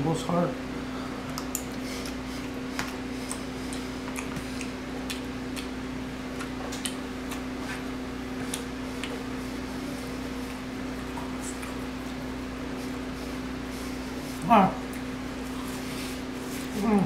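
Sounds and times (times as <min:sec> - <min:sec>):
low electrical hum: 0:00.0 - 0:17.0
person chewing food: 0:01.2 - 0:17.0.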